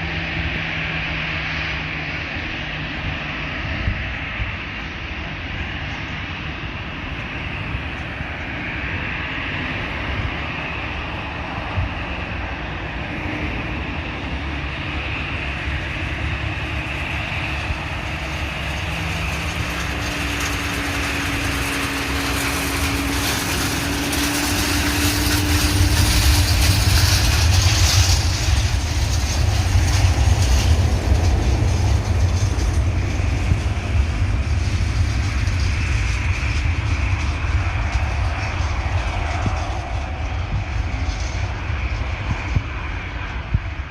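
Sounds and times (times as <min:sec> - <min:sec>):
deep rumble: 0:00.0 - 0:43.9
jet airliner engines: 0:00.0 - 0:43.9.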